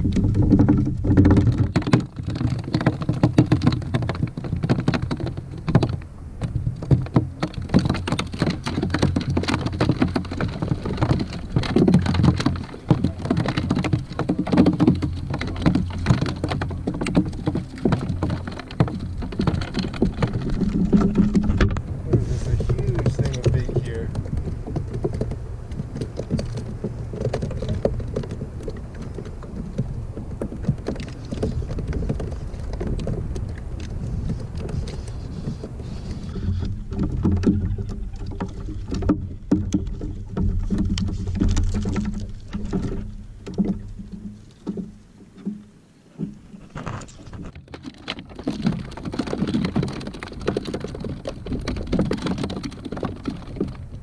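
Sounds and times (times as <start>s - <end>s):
low steady hum: 0.0s - 47.7s
small knocks and clicks: 0.0s - 54.0s
water slapping against kayak hull: 0.0s - 54.0s.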